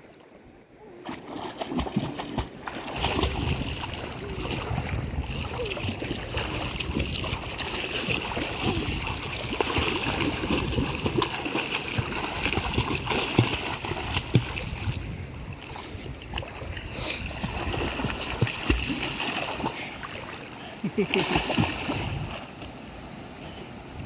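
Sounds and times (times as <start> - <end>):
child splashing in water: 0.9 - 15.0, 16.4 - 20.4, 21.0 - 22.4.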